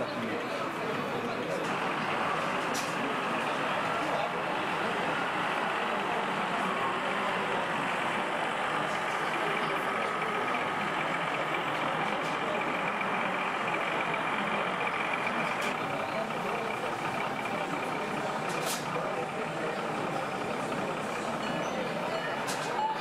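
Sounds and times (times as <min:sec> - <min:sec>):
crowd talking: 0:00.0 - 0:23.0.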